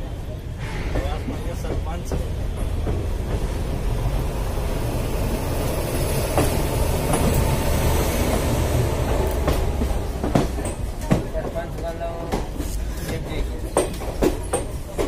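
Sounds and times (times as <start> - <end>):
train wheels clattering: 0.1 - 15.0.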